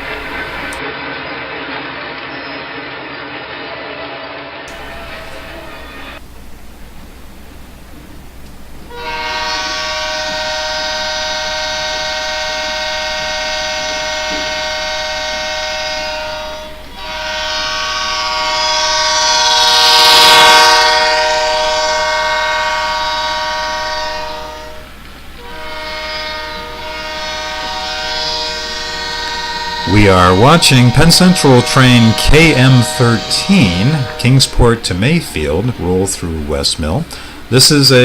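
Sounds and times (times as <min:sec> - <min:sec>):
locomotive horn blasts: 0:00.0 - 0:00.8, 0:04.7 - 0:06.2, 0:08.8 - 0:38.0.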